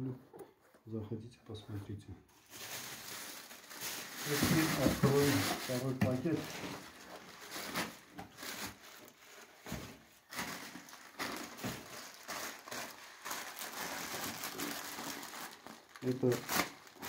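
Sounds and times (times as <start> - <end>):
plastic bag and paper crinkling: 2.3 - 17.0.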